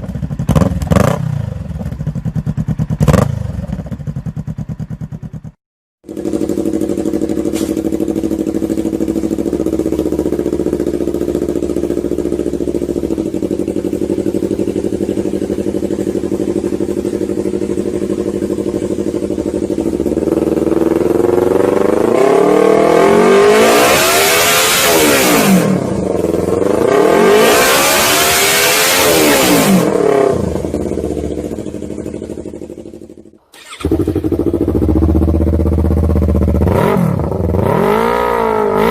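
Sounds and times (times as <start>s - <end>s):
motorcycle engine idling: 0.0s - 23.2s, 25.7s - 26.9s, 29.8s - 38.6s
motorcycle engine revving: 0.0s - 38.9s.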